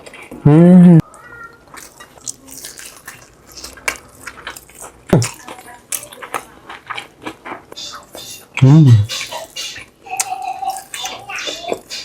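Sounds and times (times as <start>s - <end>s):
wet chewing and smacking: 1.5s - 12.0s.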